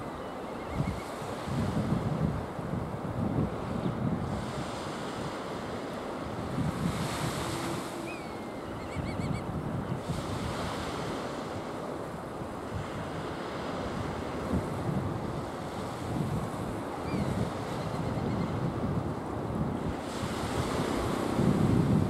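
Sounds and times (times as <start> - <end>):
surf washing on sandy beach: 0.0 - 22.0
wind rumbling on microphone: 0.0 - 22.0.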